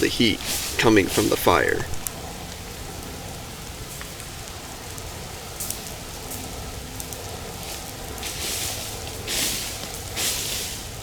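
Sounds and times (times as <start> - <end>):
flames crackling: 0.0 - 11.0.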